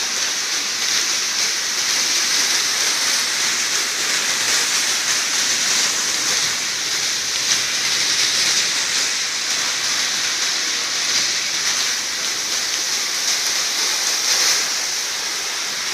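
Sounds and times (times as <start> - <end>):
heavy rain on flooded street: 0.0 - 15.9.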